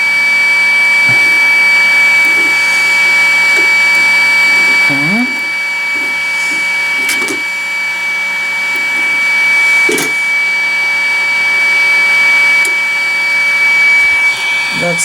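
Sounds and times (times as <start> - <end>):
hot air blower whining: 0.0 - 15.0.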